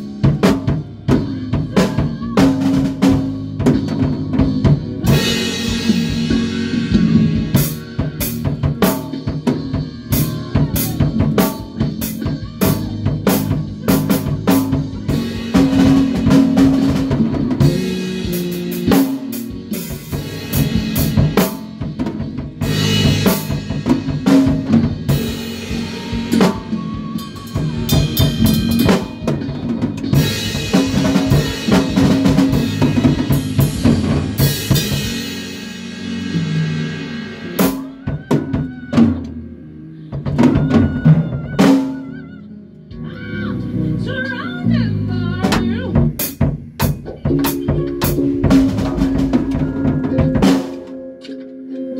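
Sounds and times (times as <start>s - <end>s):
drum kit playing: 0.0s - 42.2s, 44.1s - 51.9s
band rehearsing: 0.0s - 51.9s
bass: 0.0s - 51.9s.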